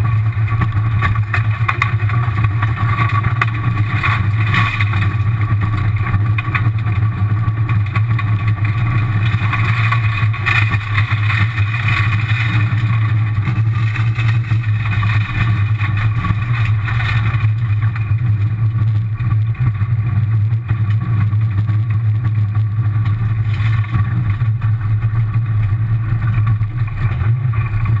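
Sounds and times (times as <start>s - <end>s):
gravel and tyre noise: 0.0s - 28.0s
rally car engine running: 0.0s - 28.0s.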